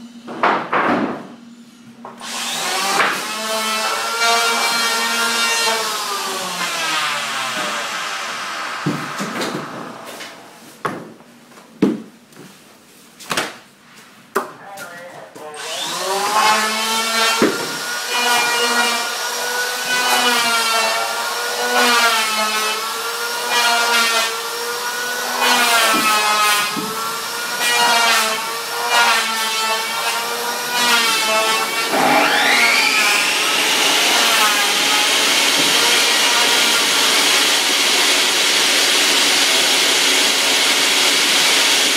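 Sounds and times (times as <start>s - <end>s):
table saw cutting wood: 2.1s - 10.9s, 15.6s - 41.9s.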